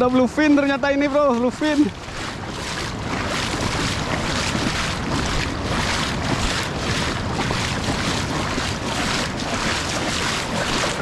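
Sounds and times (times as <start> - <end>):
water washing over reef: 0.0 - 11.0
wind buffeting microphone: 0.0 - 11.0.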